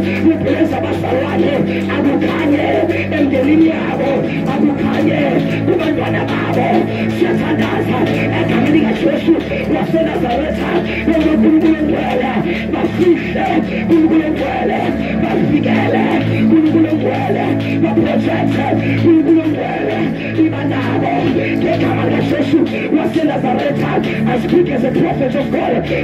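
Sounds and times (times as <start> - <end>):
instrumental backing music: 0.0 - 26.0
man singing into a microphone: 0.0 - 26.0.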